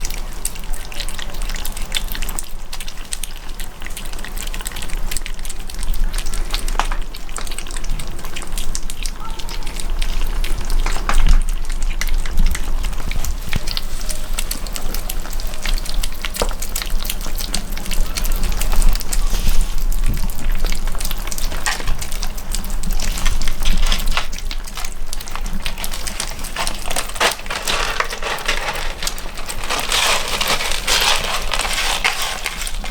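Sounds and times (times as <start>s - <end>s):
kittens chewing and smacking: 0.0s - 32.9s.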